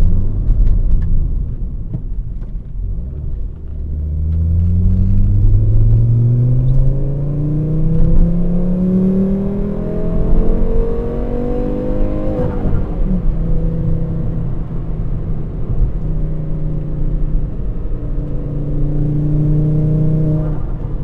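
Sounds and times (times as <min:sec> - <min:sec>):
car engine accelerating: 0:02.4 - 0:21.0.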